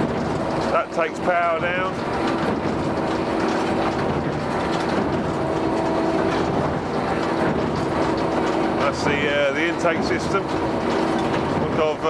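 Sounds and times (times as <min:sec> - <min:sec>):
baler mechanical clatter: 0:00.0 - 0:12.0.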